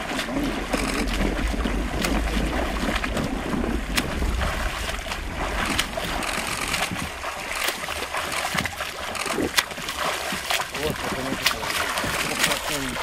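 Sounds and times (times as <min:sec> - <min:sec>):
swimmer's arm strokes splashing: 0:00.0 - 0:13.0
wind rumbling on microphone: 0:00.0 - 0:13.0.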